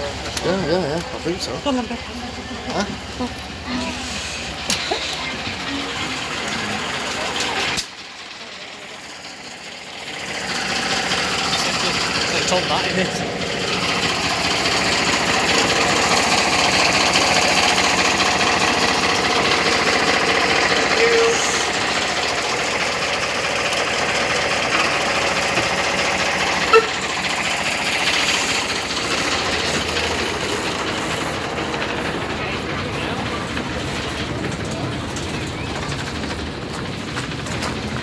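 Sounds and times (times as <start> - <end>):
locomotive engine running: 0.0 - 38.0.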